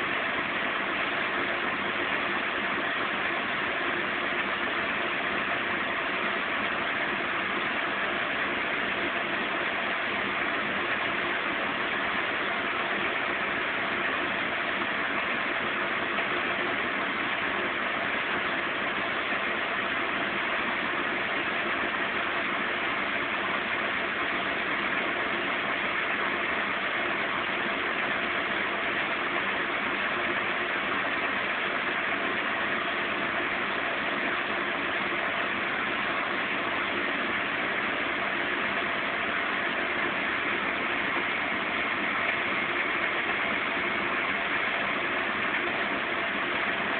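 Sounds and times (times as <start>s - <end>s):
washing machine spinning hum: 0.0s - 46.9s.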